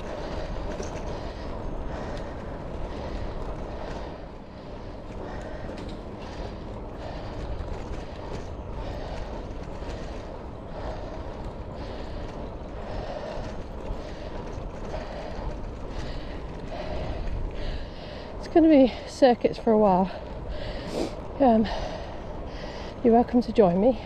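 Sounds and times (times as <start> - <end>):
bike tyres rolling on tarmac: 0.0 - 24.0.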